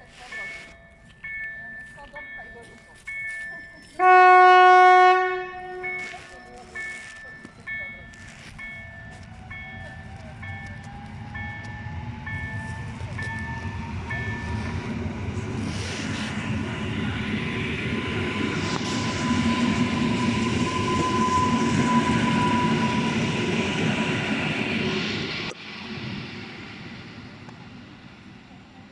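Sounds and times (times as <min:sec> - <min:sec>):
passenger train rumble and whine: 0:00.0 - 0:28.9.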